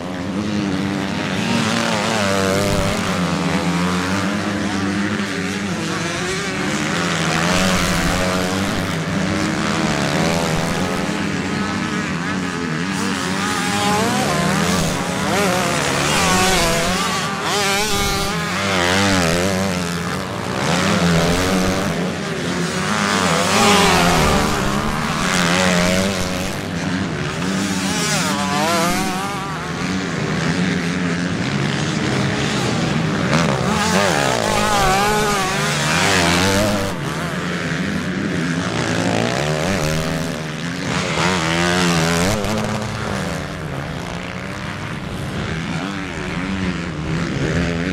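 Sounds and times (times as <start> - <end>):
motocross engines revving: 0.0 - 47.9.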